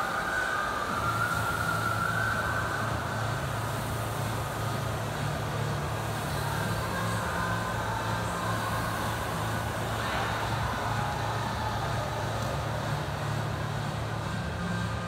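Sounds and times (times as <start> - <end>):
low hum: 0.0 - 15.0
rowing machine fan whirring: 0.0 - 15.0.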